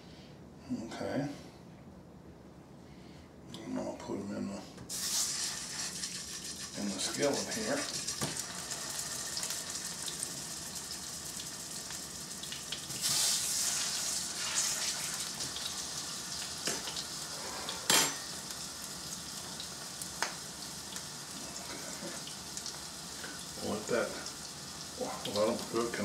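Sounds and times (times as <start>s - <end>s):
pork chops sizzling in skillet: 4.9s - 26.0s.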